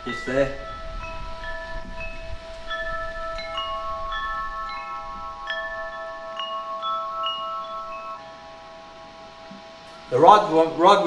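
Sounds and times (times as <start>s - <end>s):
chimes ringing: 0.0s - 11.0s.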